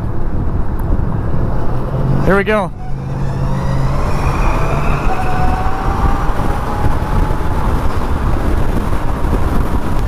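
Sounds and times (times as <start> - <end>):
wind rush on microphone: 0.0 - 10.0
electric motor whining: 1.2 - 9.6.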